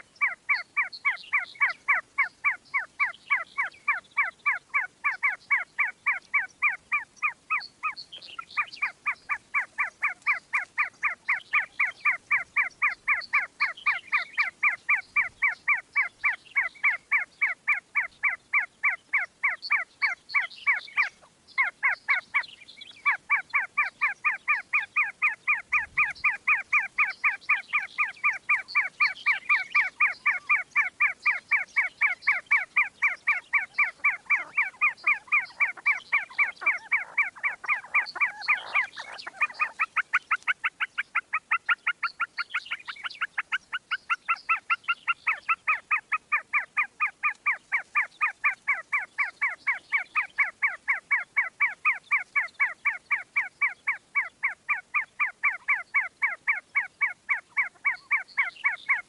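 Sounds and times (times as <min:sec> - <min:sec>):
partridge calling: 0:00.0 - 0:59.0.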